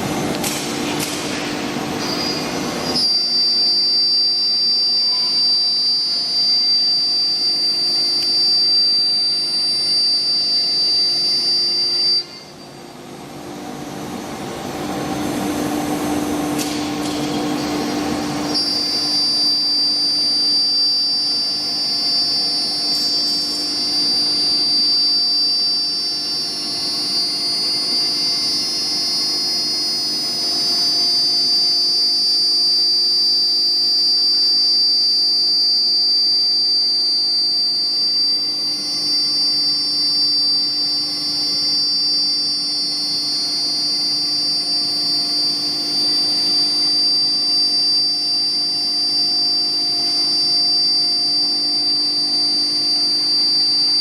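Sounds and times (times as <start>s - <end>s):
mechanical noise: 0.0s - 50.3s
cnc router spindle whine: 0.0s - 54.0s.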